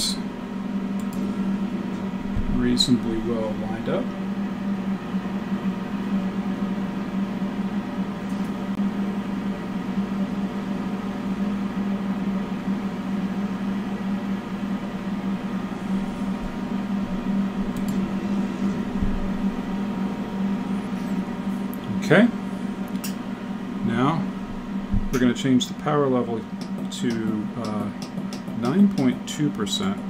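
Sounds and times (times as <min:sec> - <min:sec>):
laser cutter humming: 0:00.0 - 0:30.0.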